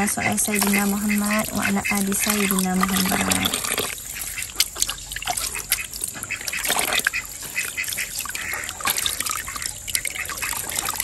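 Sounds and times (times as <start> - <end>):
tap water running: 0.0 - 11.0
water splashing in a plastic basin: 0.0 - 11.0.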